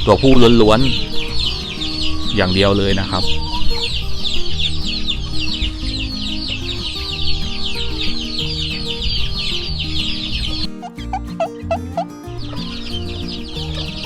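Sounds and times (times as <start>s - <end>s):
chicks peeping: 0.0s - 14.0s
slow melodic background music: 0.0s - 14.0s.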